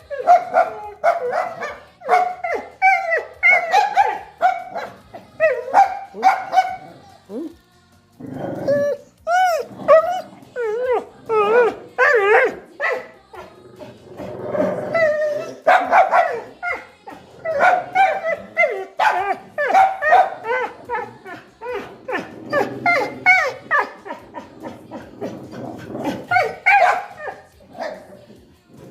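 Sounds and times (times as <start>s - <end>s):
dog whining and yowling: 0.0s - 7.6s, 8.3s - 13.4s, 14.5s - 28.0s.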